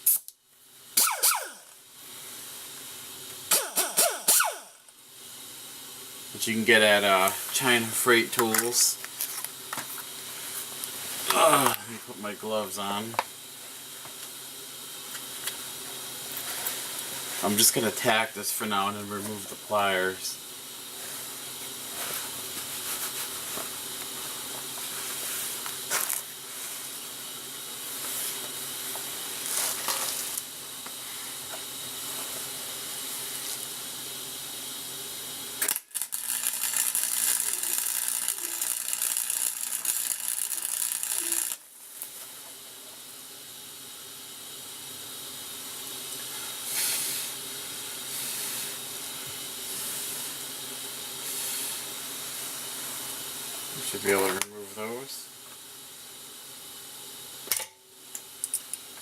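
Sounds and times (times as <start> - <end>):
arc welding crackling hiss: 0.0 - 59.0.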